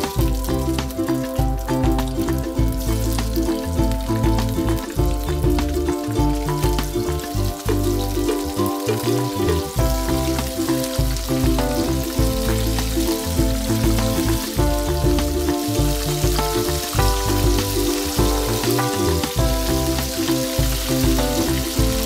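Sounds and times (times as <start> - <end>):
background music with bass: 0.0 - 22.0
fish frying in hot oil: 0.0 - 22.0.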